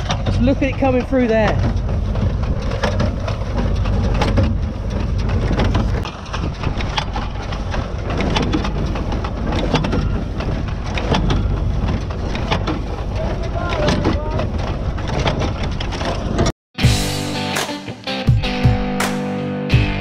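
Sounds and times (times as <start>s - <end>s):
hay baler clattering: 0.0s - 16.5s
tractor engine drone: 0.0s - 20.0s.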